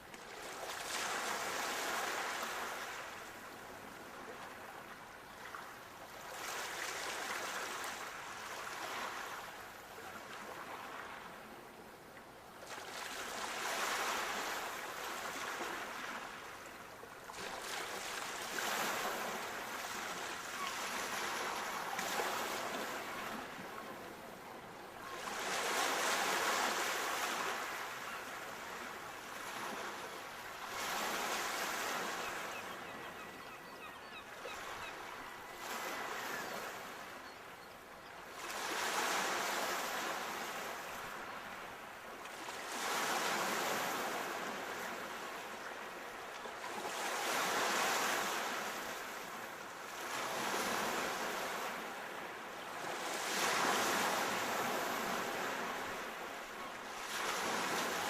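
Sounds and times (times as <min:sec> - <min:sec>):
sea waves breaking on shore: 0:00.0 - 0:11.5, 0:12.6 - 0:33.4, 0:34.4 - 0:37.4, 0:38.3 - 0:58.0.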